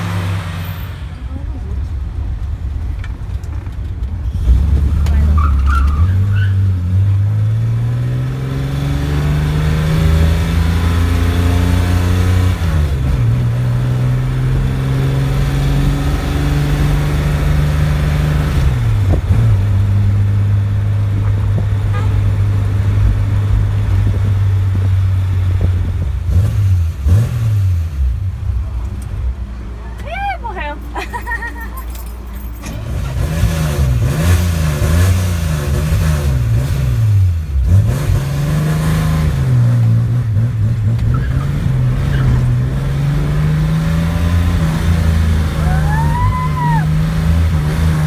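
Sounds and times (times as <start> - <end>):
car engine accelerating: 0.0 - 29.3, 30.9 - 48.0.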